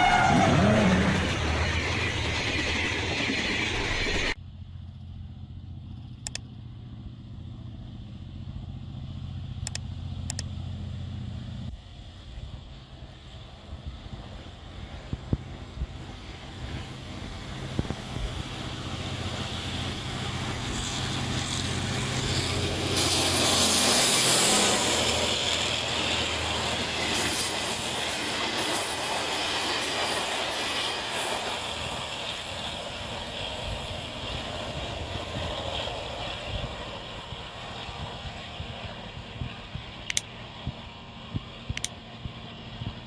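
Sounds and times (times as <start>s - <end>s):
locomotive engine hum: 0.0s - 43.0s
wheels rushing on rail: 0.0s - 43.0s.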